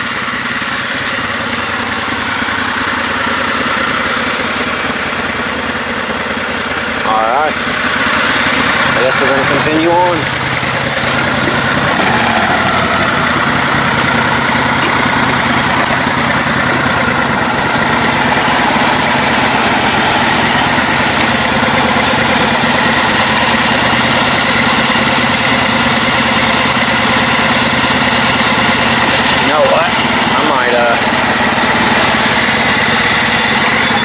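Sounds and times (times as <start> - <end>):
lawn tractor engine running: 0.0 - 34.0.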